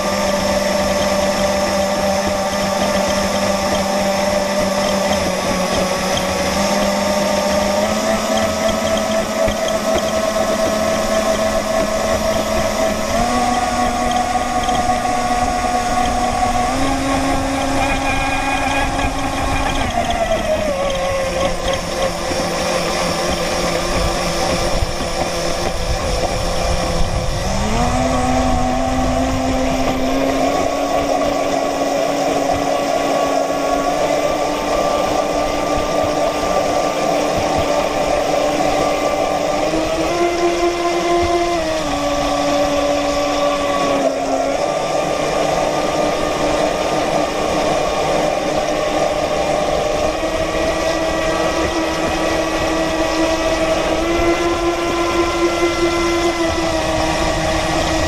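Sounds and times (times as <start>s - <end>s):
model boat motor droning: 0.0s - 58.0s
water rushing past hull: 0.0s - 58.0s.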